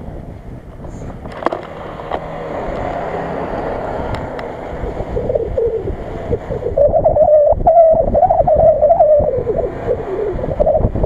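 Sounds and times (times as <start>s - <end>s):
wavering whine: 0.0s - 11.0s
wind rumble on microphone: 0.0s - 11.0s
car engine revving: 0.9s - 11.0s.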